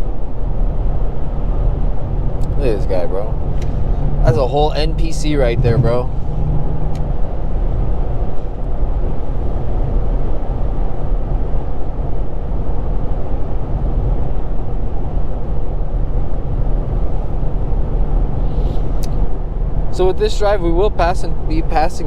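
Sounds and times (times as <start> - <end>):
car engine droning at cruise: 0.0 - 22.0
road and tyre noise: 0.0 - 22.0.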